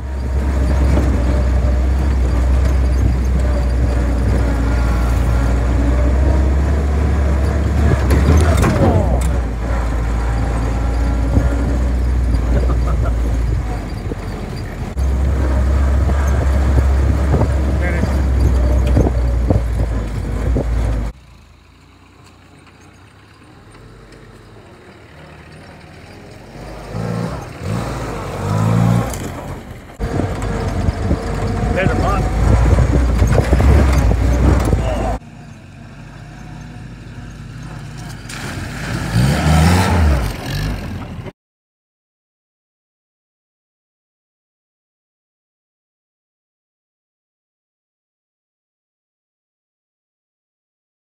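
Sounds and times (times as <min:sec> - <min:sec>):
jeep approaching on dirt track: 0:00.0 - 0:41.3
vehicle engine rumbling close: 0:00.0 - 0:41.3.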